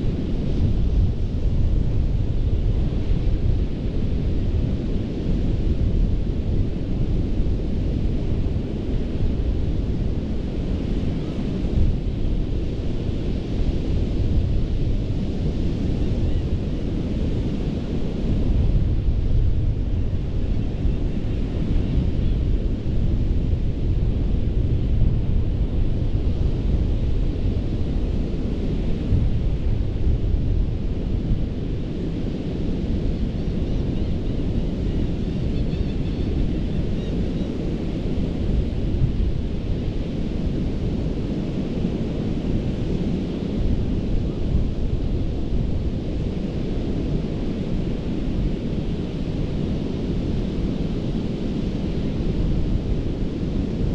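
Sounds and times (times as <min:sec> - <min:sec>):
wind rumble on microphone: 0:00.0 - 0:53.9.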